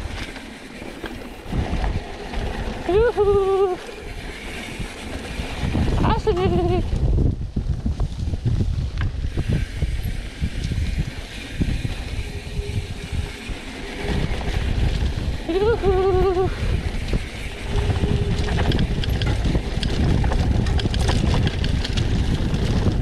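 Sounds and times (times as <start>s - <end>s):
bike rattling over bumps: 0.0s - 23.0s
bike tyres rolling on dirt: 0.0s - 23.0s
wind buffeting microphone: 0.0s - 23.0s.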